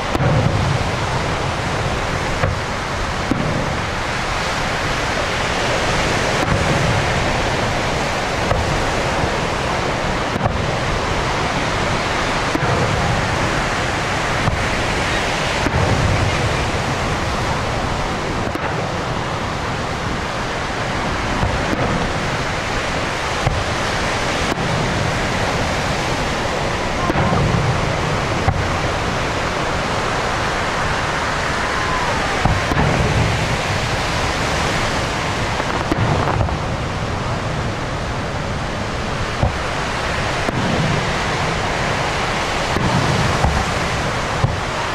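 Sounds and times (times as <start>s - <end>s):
fireworks booming and cracking: 0.0s - 44.9s
steady rushing noise: 0.0s - 44.9s.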